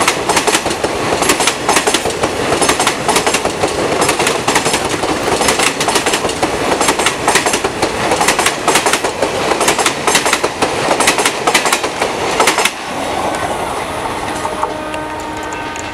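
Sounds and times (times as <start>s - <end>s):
train wheels clattering over rail joints: 0.0s - 12.8s
train rumble: 0.0s - 15.9s.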